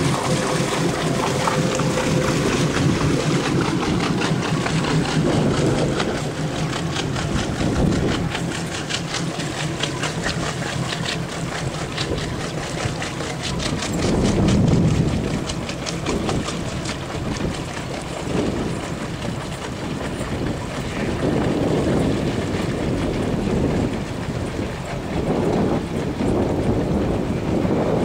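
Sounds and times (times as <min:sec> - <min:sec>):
boat engine rumbling: 0:00.0 - 0:28.0
water noise: 0:00.0 - 0:28.0
wind noise: 0:00.0 - 0:28.0.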